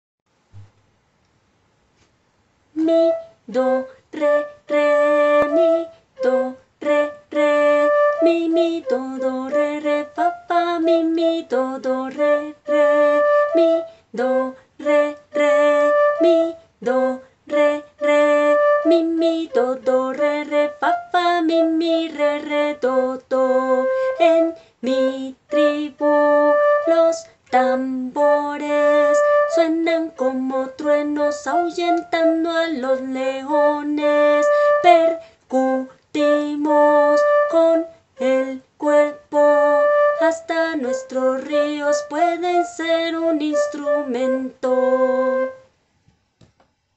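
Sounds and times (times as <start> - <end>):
woman singing solfege: 2.8 - 45.6.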